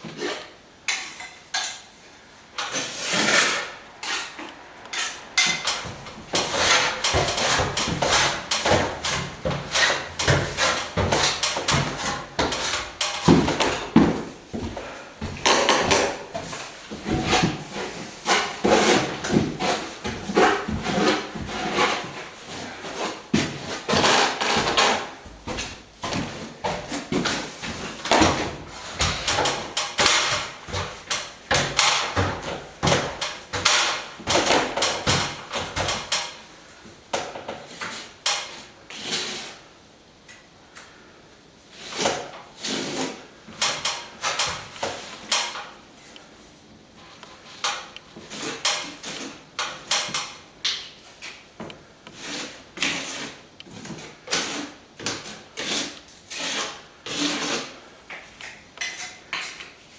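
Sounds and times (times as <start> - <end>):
plastering tool scraping wall: 2.6 - 39.7, 41.7 - 45.8, 47.0 - 51.4, 52.1 - 59.9.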